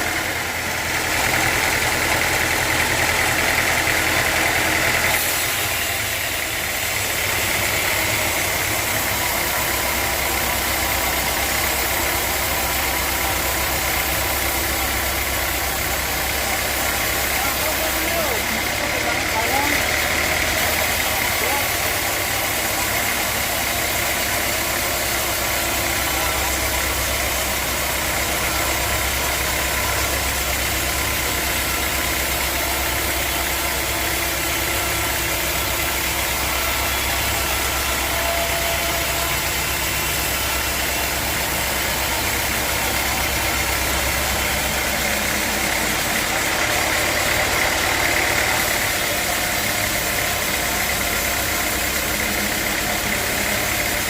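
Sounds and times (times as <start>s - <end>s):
high machine whine: 0.0s - 54.0s
sawmill machinery drone: 0.0s - 54.0s.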